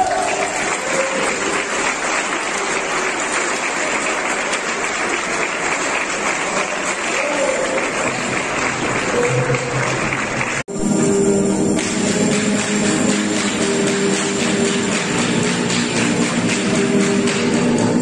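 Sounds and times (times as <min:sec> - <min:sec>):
audience applauding: 0:00.0 - 0:10.7, 0:12.3 - 0:18.0.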